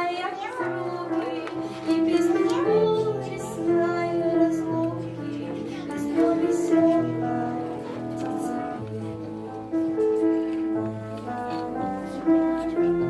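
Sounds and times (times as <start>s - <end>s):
girl singing slow melody: 0.0s - 8.8s, 10.0s - 13.0s.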